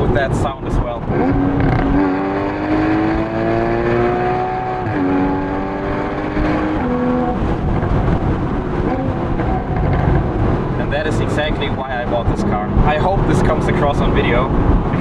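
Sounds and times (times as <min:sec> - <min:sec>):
car exhaust accelerating: 0:00.0 - 0:15.0.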